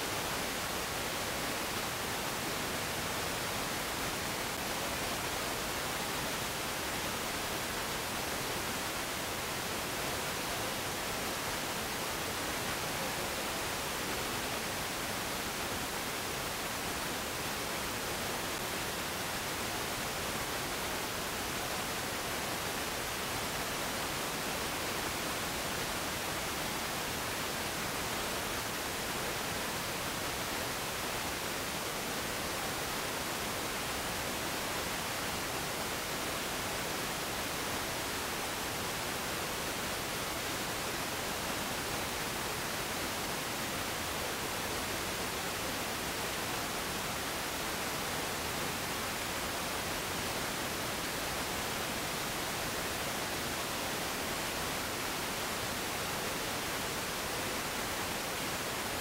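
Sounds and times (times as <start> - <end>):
steady static hiss: 0.0 - 59.0.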